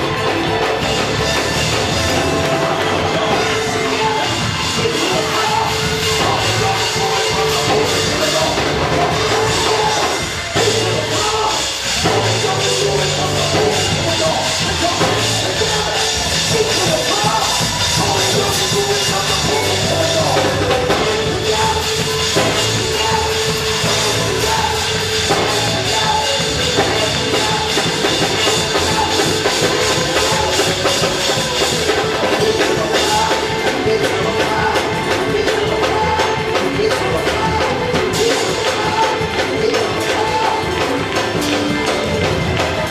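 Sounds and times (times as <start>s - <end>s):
drums playing a steady beat: 0.0s - 42.9s
voices singing along: 0.0s - 42.9s.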